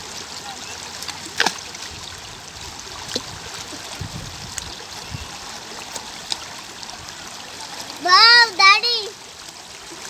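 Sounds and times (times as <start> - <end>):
water dripping and splashing: 0.0 - 10.0
water running and trickling: 0.0 - 10.0.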